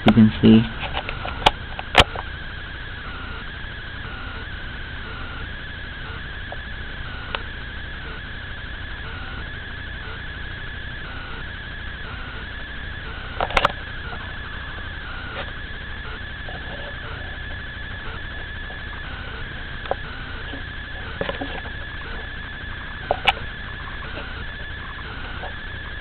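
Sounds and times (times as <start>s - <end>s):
wavering high whine: 0.0s - 26.0s.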